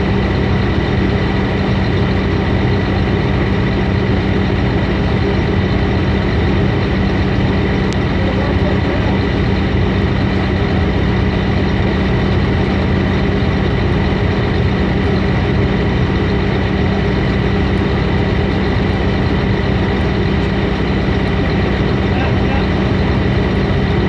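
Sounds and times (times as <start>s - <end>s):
heavy diesel engine idling: 0.0s - 24.0s.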